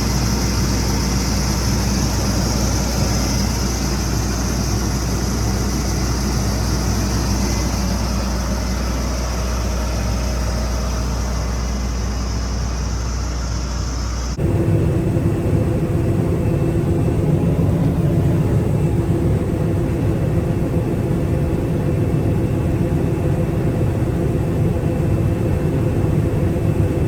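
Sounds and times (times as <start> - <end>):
heavy farm machine engine running: 0.0 - 27.0.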